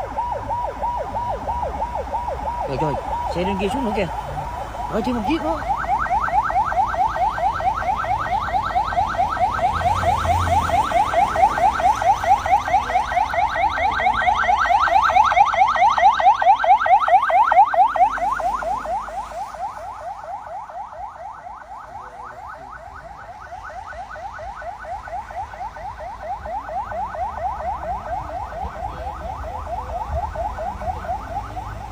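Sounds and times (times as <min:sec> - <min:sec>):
emergency siren yelping: 0:00.0 - 0:31.9.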